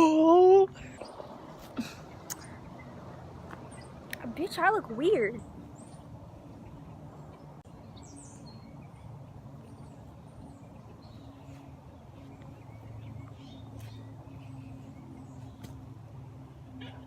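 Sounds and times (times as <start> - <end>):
distant motor humming: 0.7 - 17.0.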